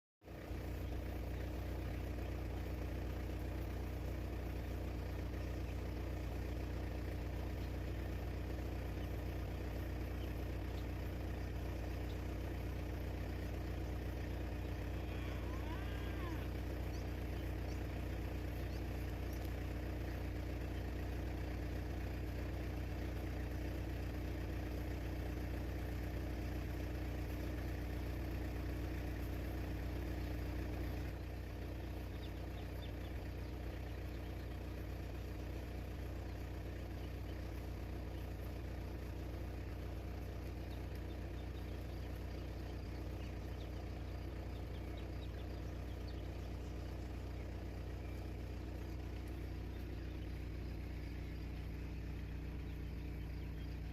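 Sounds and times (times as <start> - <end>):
engine humming: 0.2 - 53.9.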